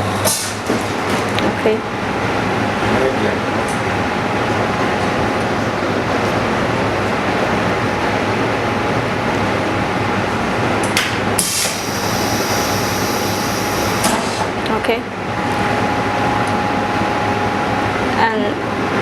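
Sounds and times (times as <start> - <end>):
laminator mechanical drone: 0.0 - 19.0.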